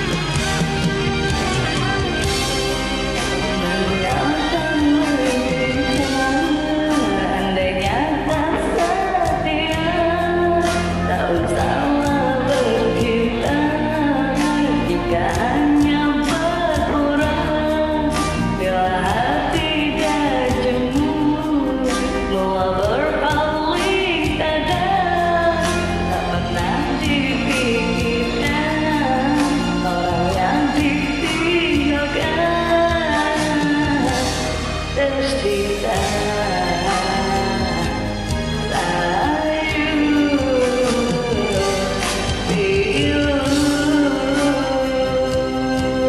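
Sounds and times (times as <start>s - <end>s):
person singing karaoke: 0.0s - 46.0s
pop backing track with beat: 0.0s - 46.0s.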